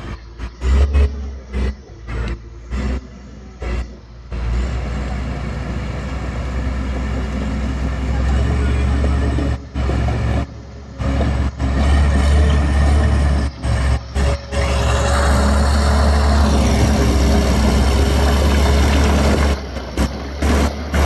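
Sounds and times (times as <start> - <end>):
bulldozer diesel engine rumble: 0.0 - 21.0.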